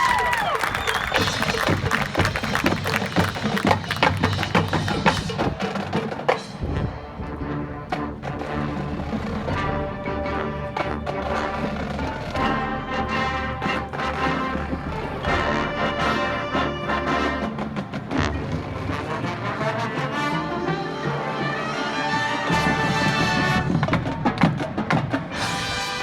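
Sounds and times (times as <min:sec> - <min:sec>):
timpani and percussion hits: 0:00.8 - 0:26.0
brass chords: 0:01.0 - 0:26.0.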